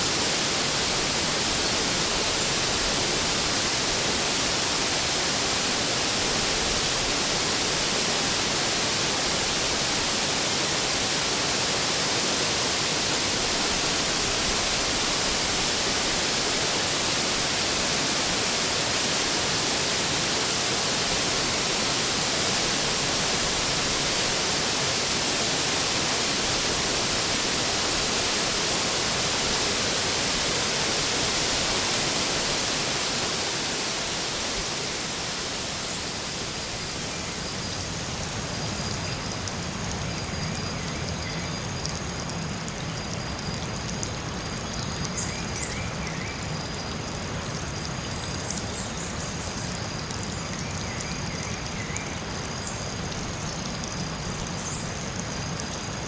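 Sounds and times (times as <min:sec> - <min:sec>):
rushing hiss of water: 0:00.0 - 0:56.0.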